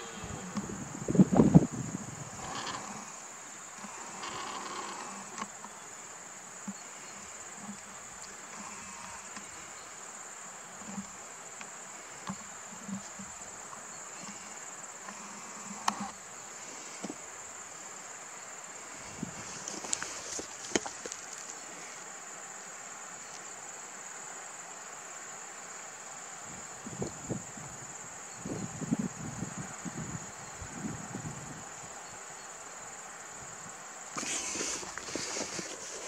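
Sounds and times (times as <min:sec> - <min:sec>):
insect chorus: 0:00.0 - 0:36.0.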